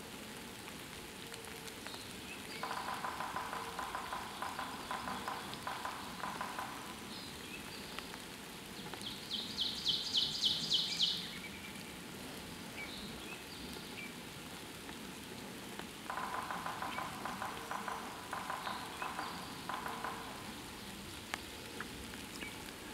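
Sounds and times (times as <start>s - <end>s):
steady hiss: 0.0s - 22.9s
woodland birdsong: 1.8s - 12.0s, 12.7s - 14.3s, 16.0s - 22.8s.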